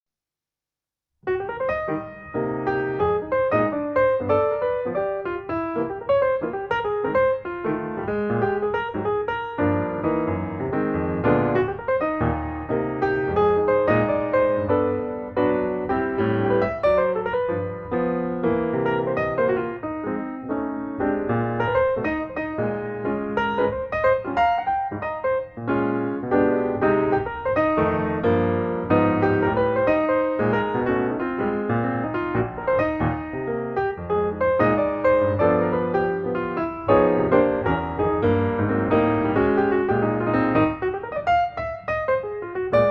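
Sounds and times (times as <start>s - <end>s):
piano music: 1.2s - 42.9s.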